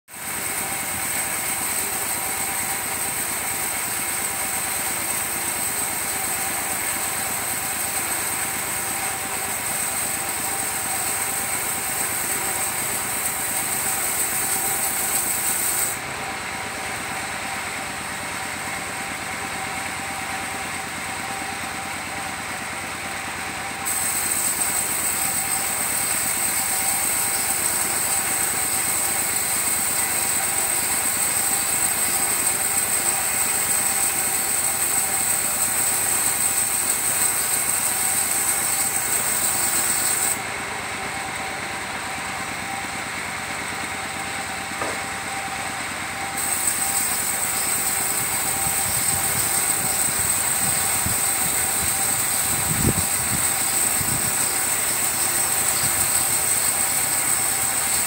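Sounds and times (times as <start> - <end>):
circular saw whining through log: 0.1 - 58.0.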